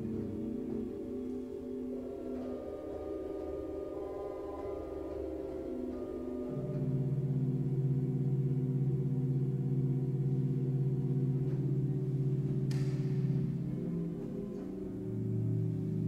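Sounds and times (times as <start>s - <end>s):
pipe organ held notes: 0.0s - 16.0s.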